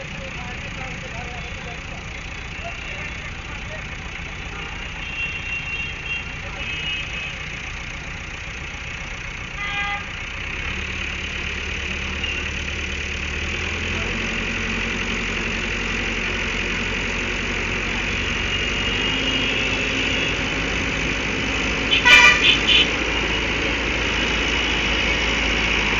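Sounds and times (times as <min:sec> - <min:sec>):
heavy diesel engines under load: 0:00.0 - 0:25.9.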